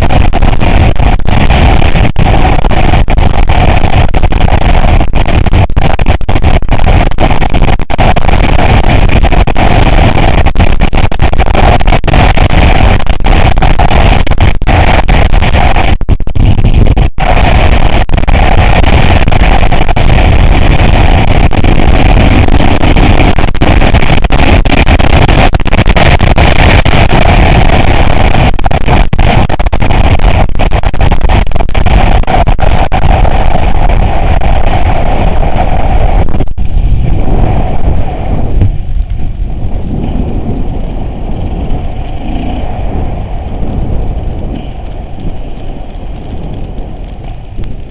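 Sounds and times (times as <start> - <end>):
knocks and crackles: 0.0 - 47.9.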